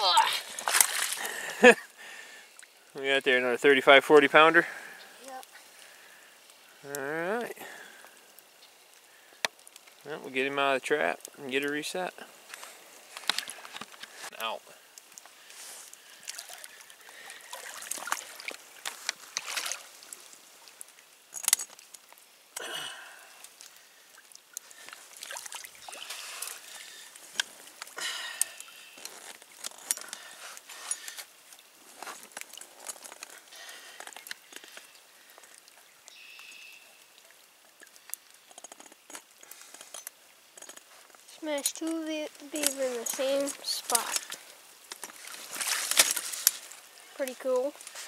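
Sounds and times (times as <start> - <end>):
pond water splashing: 0.0 - 48.0.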